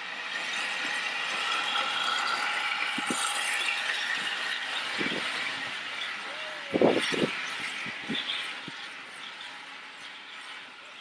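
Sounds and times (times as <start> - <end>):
steam train rolling slowly: 0.0 - 11.0
faint squeal: 0.5 - 11.0.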